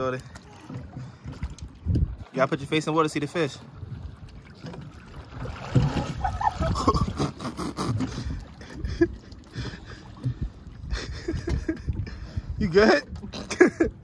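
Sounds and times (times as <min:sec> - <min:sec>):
water sloshing and splashing: 0:00.0 - 0:14.0
wind rumbling on microphone: 0:00.9 - 0:02.3, 0:03.7 - 0:14.0.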